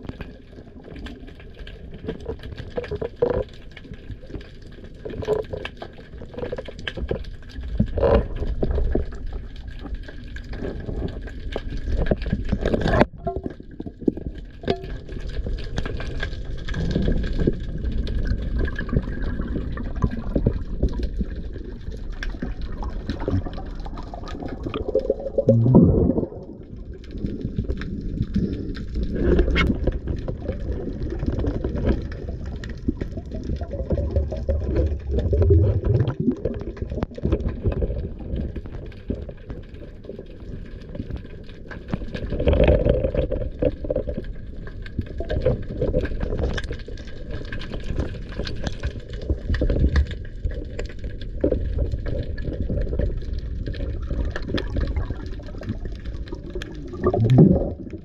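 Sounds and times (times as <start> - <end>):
muffled underwater water sloshing: 0.0 - 58.0.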